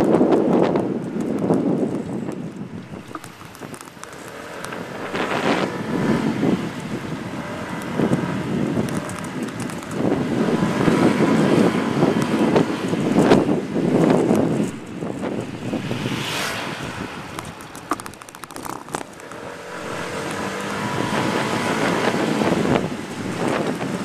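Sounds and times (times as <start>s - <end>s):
low vehicle rumble: 0.0s - 24.0s
wind buffeting microphone: 0.0s - 24.0s.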